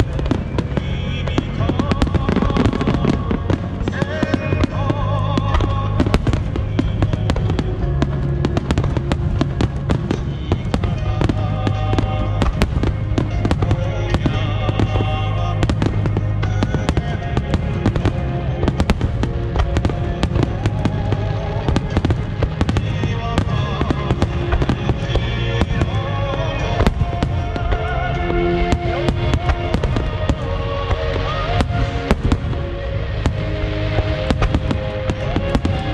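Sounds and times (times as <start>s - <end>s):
fireworks bursting and crackling: 0.0s - 35.9s
music playing: 0.0s - 35.9s.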